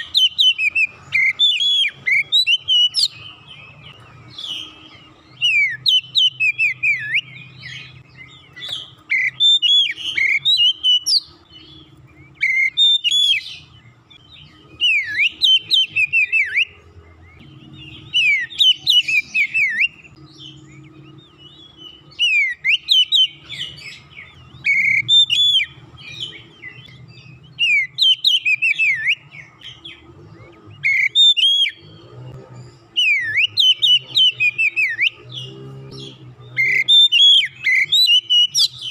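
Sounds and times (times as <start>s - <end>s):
bird singing whistled phrases: 0.0s - 32.2s, 32.9s - 35.4s, 36.0s - 38.9s.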